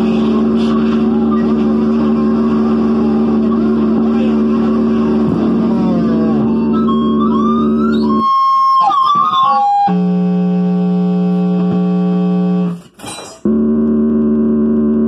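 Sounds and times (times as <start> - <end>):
held keyboard-like tones: 0.0 - 12.8.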